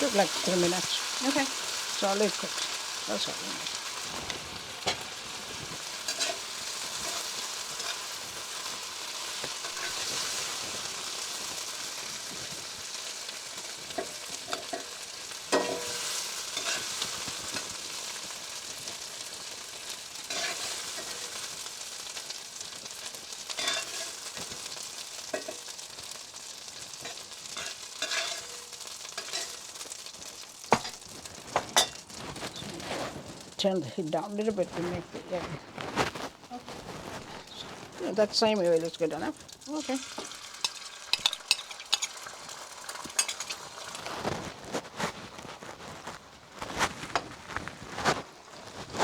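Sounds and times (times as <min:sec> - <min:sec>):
chicken sizzling in oil: 0:00.0 - 0:49.0
spatula scraping a pan: 0:00.0 - 0:49.0.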